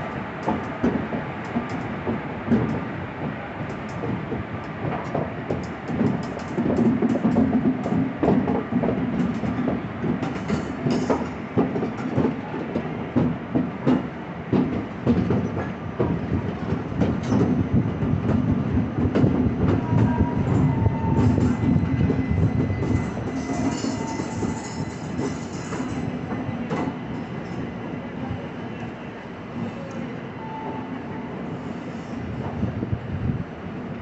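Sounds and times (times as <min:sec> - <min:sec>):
train low rumble: 0:00.0 - 0:34.0
train wheels clacking over rail joints: 0:00.4 - 0:28.3.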